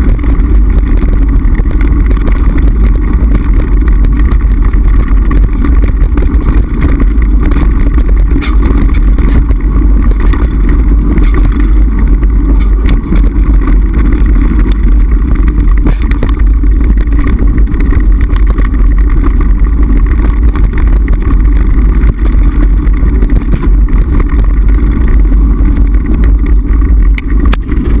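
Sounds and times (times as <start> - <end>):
bike rumbling over stony track: 0.0 - 28.0
stones knocking on bike: 0.0 - 28.0.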